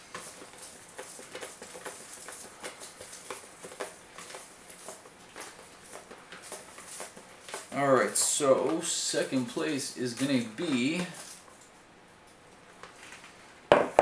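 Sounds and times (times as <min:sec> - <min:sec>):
paper slips rustling in a bowl: 0:00.0 - 0:11.7.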